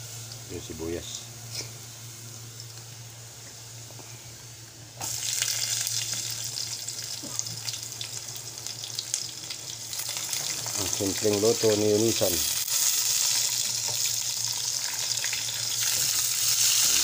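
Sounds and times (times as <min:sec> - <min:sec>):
garlic frying faintly: 0:00.0 - 0:17.0
onions sizzling in oil: 0:00.0 - 0:17.0
steady low hum: 0:00.0 - 0:17.0.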